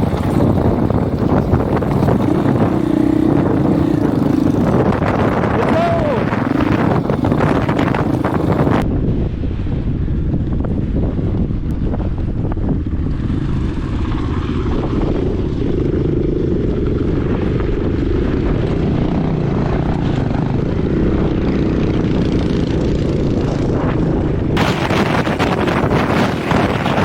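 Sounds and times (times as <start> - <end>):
dirt bike engine running: 0.0 - 9.0, 10.1 - 27.0
wind buffeting microphone: 0.0 - 27.0.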